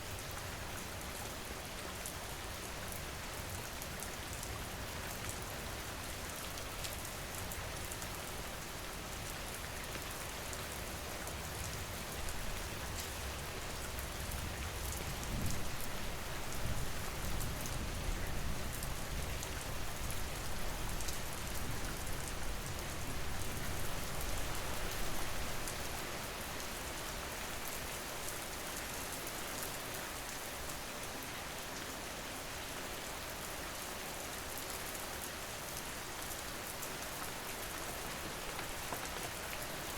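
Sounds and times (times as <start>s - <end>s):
rain pattering: 0.1s - 31.2s, 32.8s - 39.9s.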